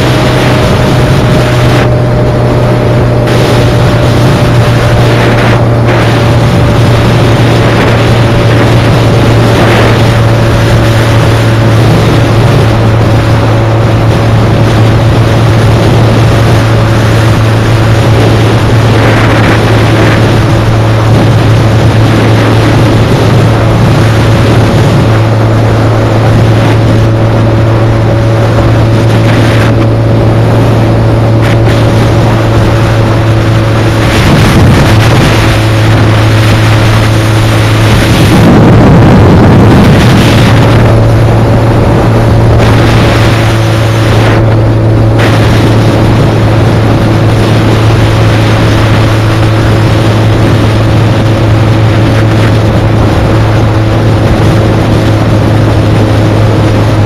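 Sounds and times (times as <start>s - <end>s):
motorcycle engine cruising: 0.0s - 57.0s
wind buffeting microphone: 0.0s - 57.0s.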